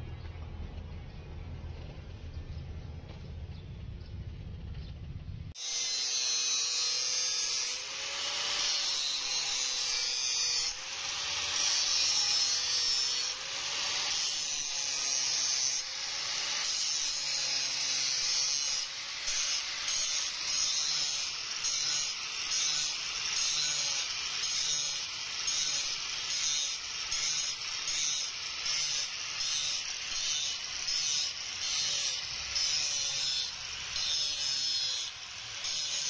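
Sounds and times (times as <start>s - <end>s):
angle grinder grinding steel: 5.6s - 36.0s.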